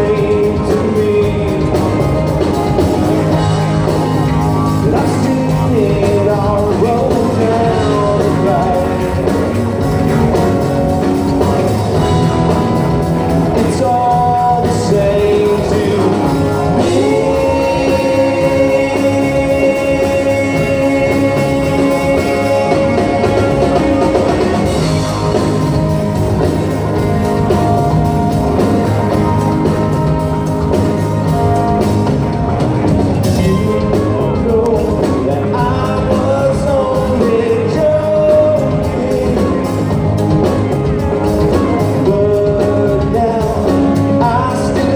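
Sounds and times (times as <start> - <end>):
lead vocal singing: 0.0 - 10.7, 11.4 - 26.3, 33.1 - 44.9
live rock band playing: 0.0 - 44.9.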